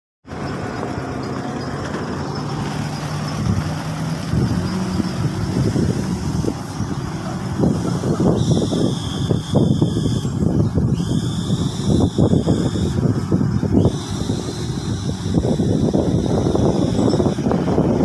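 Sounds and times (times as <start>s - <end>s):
truck diesel engine running: 0.3s - 18.0s.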